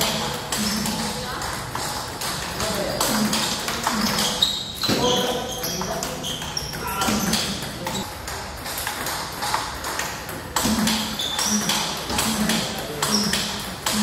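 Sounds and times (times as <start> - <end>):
table tennis ball clicking: 0.0 - 14.0.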